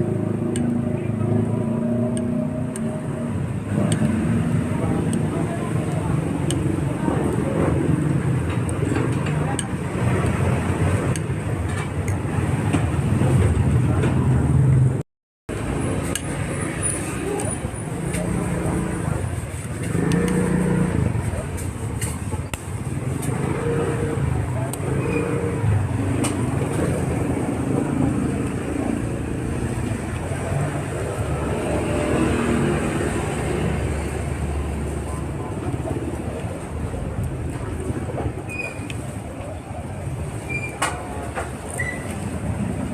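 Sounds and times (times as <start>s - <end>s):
street traffic rumble: 0.0s - 42.9s.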